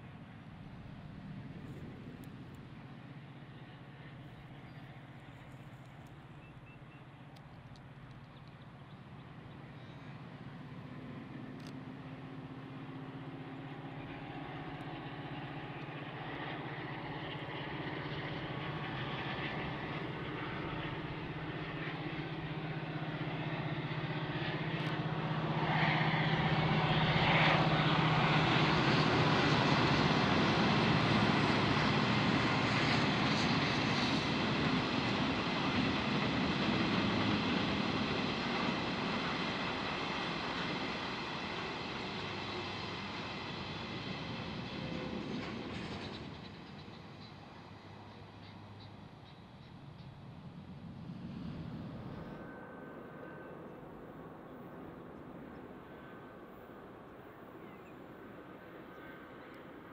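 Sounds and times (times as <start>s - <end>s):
diesel locomotive droning: 0.0s - 59.9s.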